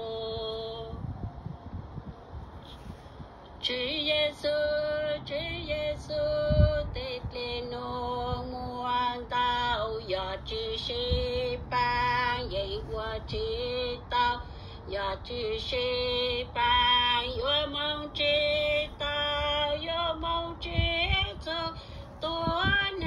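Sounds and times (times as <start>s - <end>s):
woman singing: 0.0s - 1.0s, 3.6s - 23.0s.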